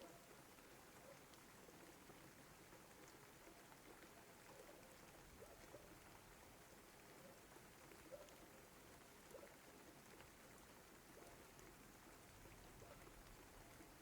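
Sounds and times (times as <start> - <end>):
faint rain pattering: 0.0 - 14.0.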